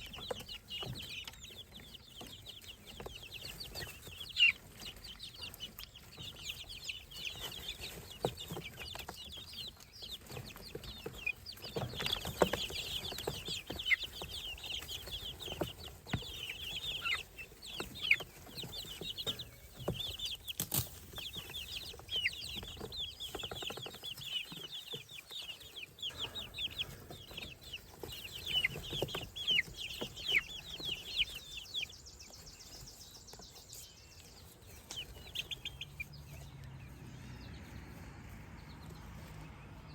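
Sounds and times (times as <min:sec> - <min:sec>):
baby birds peeping: 0:00.0 - 0:39.9.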